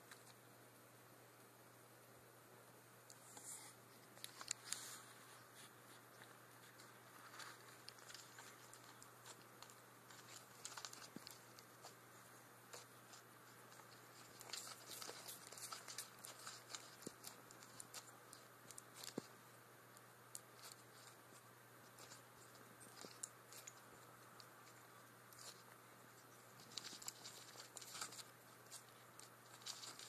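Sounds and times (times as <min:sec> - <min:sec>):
low steady hum: 0:00.0 - 0:30.0
iguana crunching leafy greens: 0:04.1 - 0:30.0.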